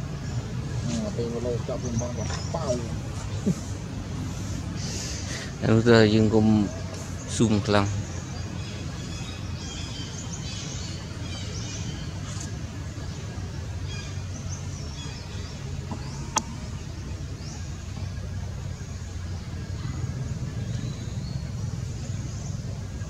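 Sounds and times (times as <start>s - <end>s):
low motor-like hum: 0.0s - 23.0s.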